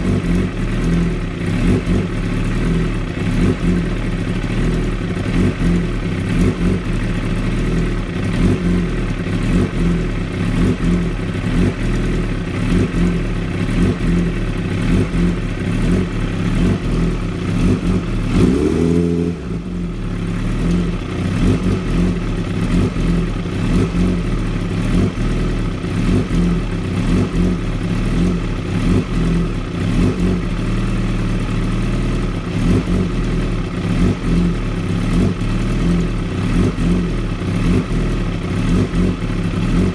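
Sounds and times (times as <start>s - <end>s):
motorcycle engine idling roughly: 0.0s - 39.9s.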